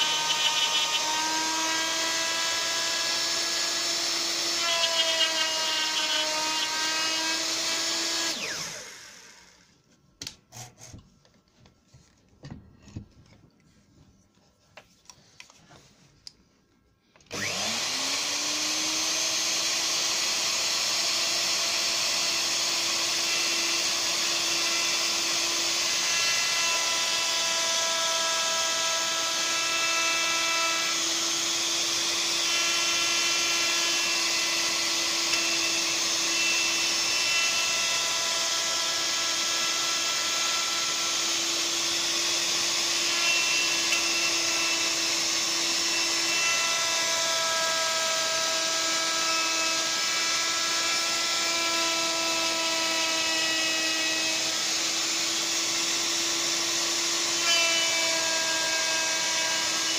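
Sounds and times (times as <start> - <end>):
router running: 0.0 - 9.7, 10.5 - 11.0, 17.3 - 59.9.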